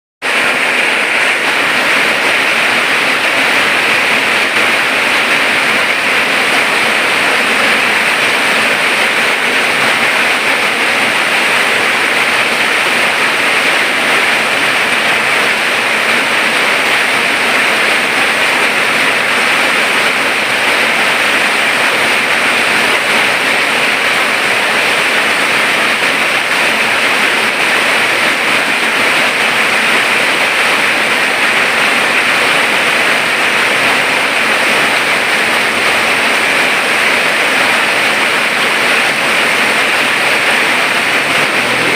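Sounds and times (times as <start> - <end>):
rain falling: 0.2 - 41.9.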